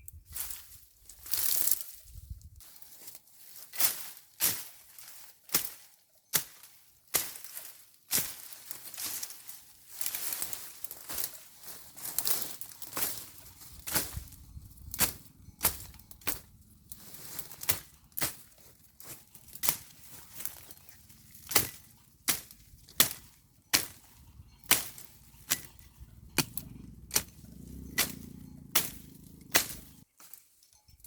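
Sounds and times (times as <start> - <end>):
hand tool chopping weeds and soil: 2.6 - 30.5.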